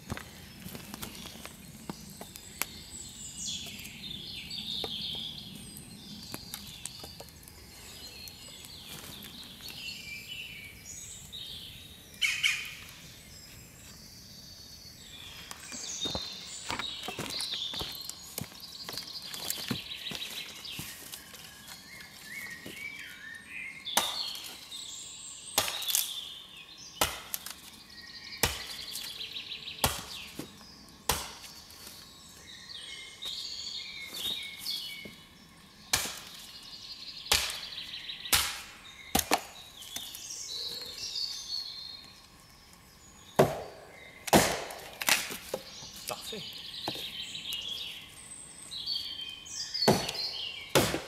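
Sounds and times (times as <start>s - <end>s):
birds singing: 0.0s - 51.0s.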